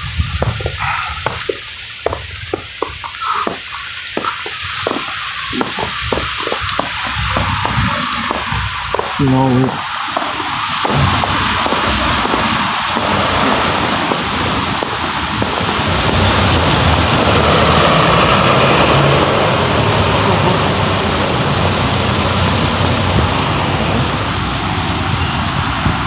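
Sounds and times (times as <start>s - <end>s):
bus passing: 0.0s - 26.0s.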